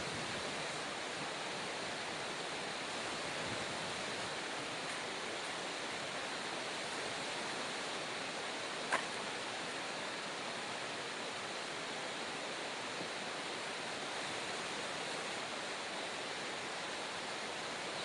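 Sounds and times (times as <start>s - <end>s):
fast-flowing river rushing: 0.0s - 18.0s.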